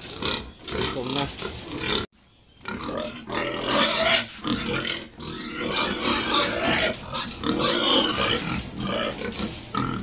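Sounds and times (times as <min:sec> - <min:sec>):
pigs squealing: 0:00.0 - 0:10.0.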